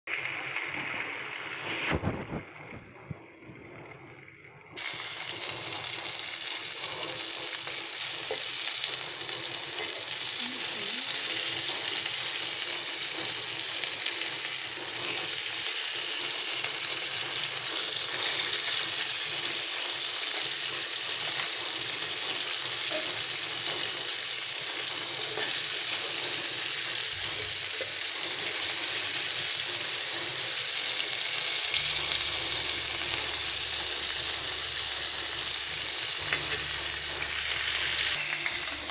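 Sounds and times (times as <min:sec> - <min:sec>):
fish sizzling in oil: 0:00.1 - 0:38.9.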